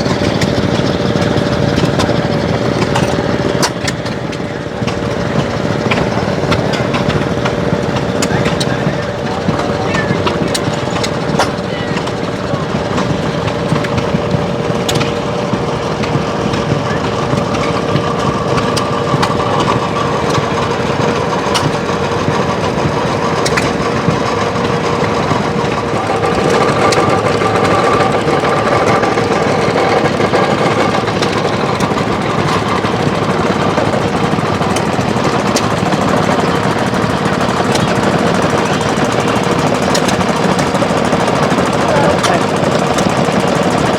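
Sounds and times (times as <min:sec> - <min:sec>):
small engines clattering: 0:00.0 - 0:43.9
steady whine: 0:00.0 - 0:43.9.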